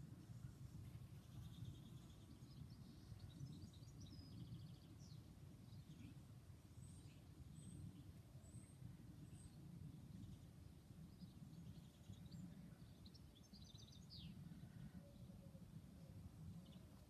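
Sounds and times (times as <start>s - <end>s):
small birds twittering: 0.3s - 15.3s, 16.5s - 17.0s.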